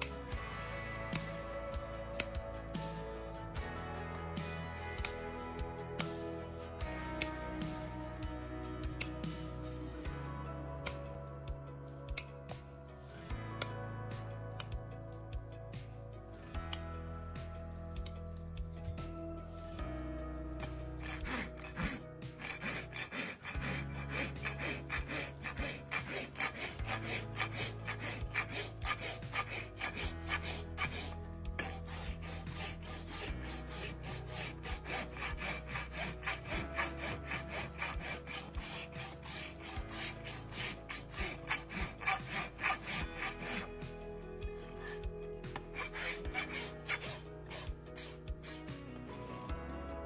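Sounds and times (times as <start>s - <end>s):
hoof rasp filing a hoof: 0.0s - 10.1s, 10.8s - 11.1s, 12.1s - 14.8s, 18.9s - 49.6s.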